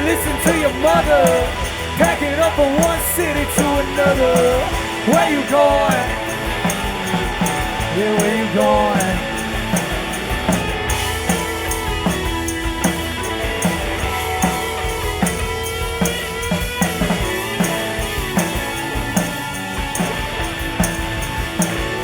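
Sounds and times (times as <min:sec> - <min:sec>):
drum kit steady beat: 0:00.0 - 0:22.0
rock band playing: 0:00.0 - 0:22.0
sliding lead guitar line: 0:00.0 - 0:22.0.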